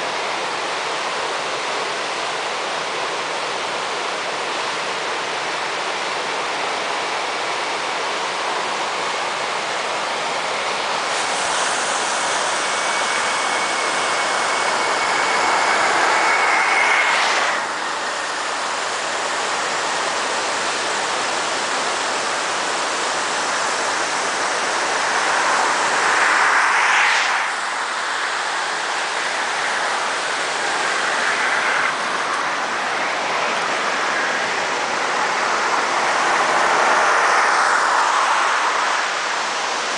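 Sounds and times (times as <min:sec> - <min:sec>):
vehicles passing on highway: 0:00.0 - 0:39.9.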